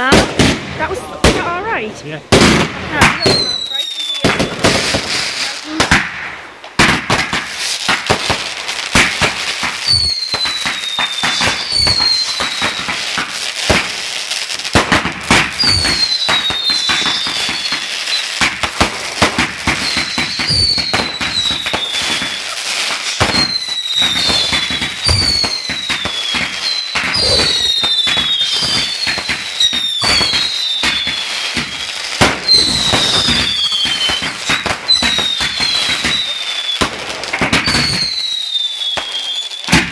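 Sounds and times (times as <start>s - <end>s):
fireworks bangs and crackling: 0.0s - 39.9s
falling firework whistles: 3.0s - 5.9s, 6.8s - 14.1s, 14.7s - 39.9s.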